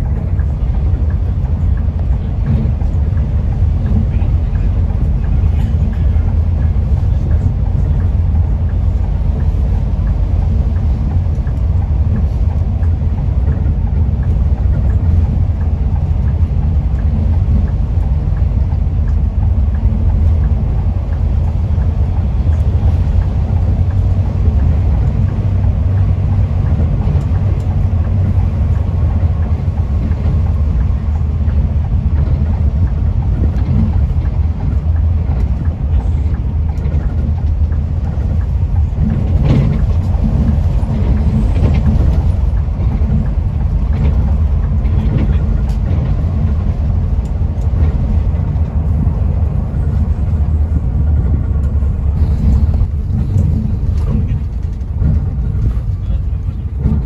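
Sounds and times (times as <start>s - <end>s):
bus engine and tyres rumbling: 0.0s - 57.0s.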